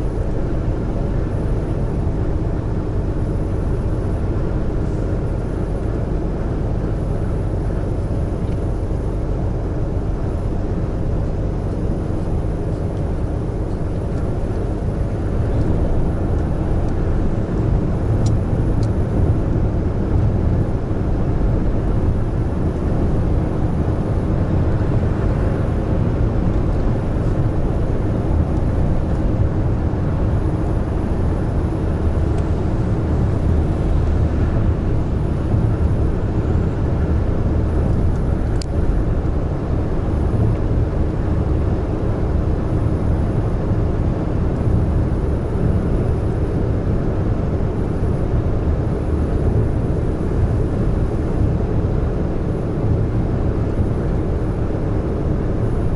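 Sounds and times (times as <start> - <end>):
diesel truck engine drone: 0.0 - 55.9
tyre road noise: 0.0 - 55.9.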